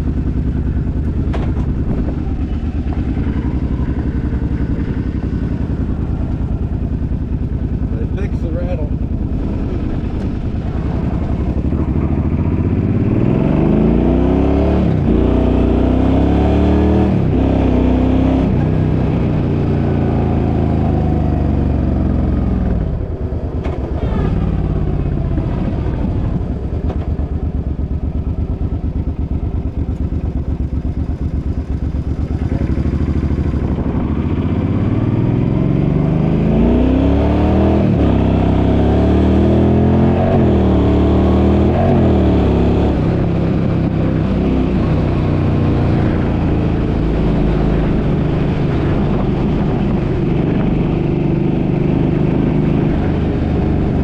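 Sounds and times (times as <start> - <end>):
engine accelerating through gears: 0.0 - 54.0.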